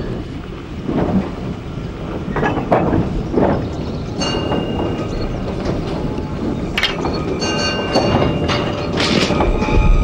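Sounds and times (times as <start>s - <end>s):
train knocks: 0.0s - 10.0s
train rumbling over rails: 0.0s - 10.0s.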